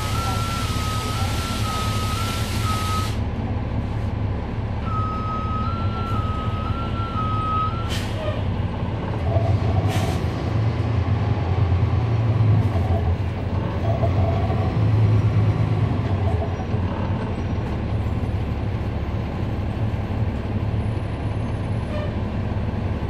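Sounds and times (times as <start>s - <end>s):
diesel bus engine drone: 0.0s - 23.0s.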